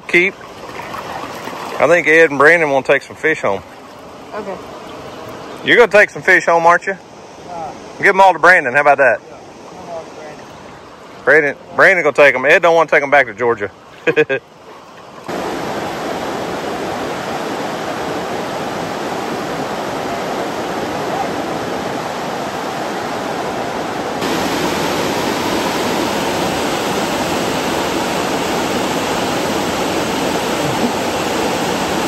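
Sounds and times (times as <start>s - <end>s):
creek water rushing over rocks: 0.0s - 32.0s.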